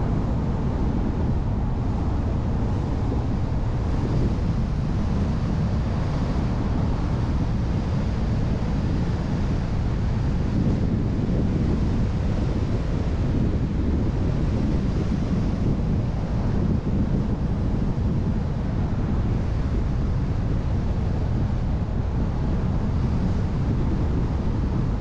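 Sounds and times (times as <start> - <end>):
wind noise on microphone: 0.0 - 25.0.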